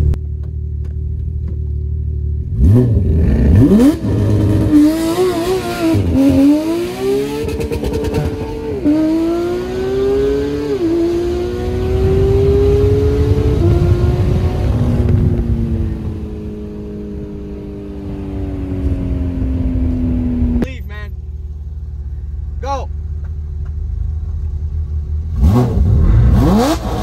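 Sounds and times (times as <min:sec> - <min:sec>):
sports car engines accelerating: 0:00.0 - 0:27.0.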